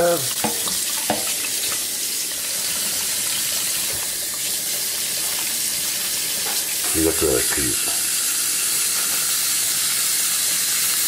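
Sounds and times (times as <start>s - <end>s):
faucet water running into sink: 0.0s - 11.0s.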